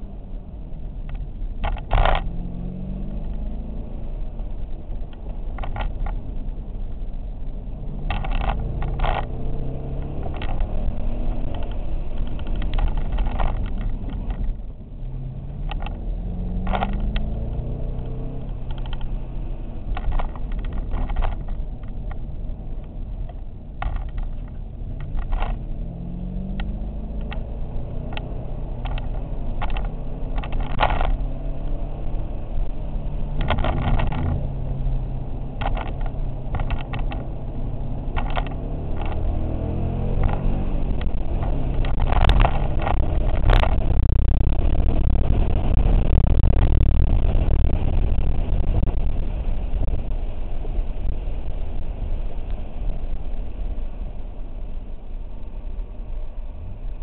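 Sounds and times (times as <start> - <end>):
car engine rising and falling: 0.0 - 57.0.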